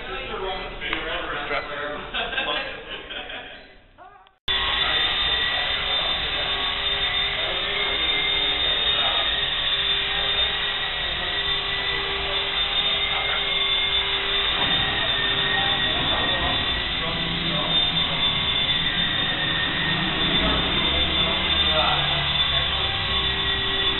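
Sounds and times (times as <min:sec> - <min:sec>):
rc helicopter rotor whine: 0:04.5 - 0:23.9.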